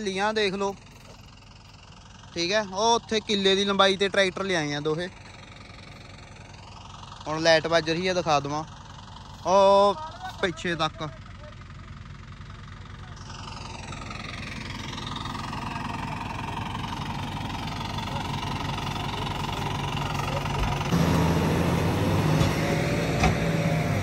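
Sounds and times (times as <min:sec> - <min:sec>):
tractor engines straining: 0:00.0 - 0:24.0.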